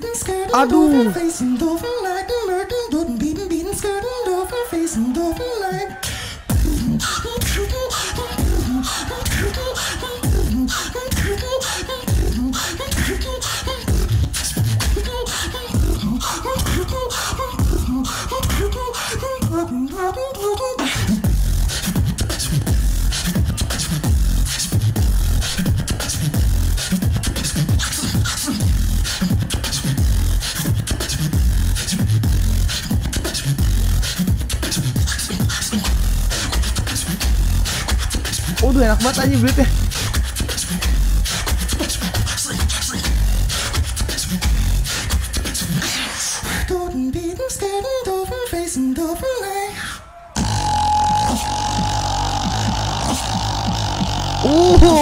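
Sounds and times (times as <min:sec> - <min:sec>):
beatboxing into a microphone: 0:00.0 - 0:55.0.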